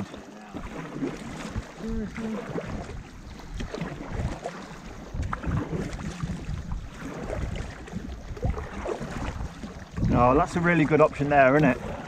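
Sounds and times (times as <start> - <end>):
paddle splashing in water: 0.0 - 12.0
wind noise on microphone: 1.2 - 12.0.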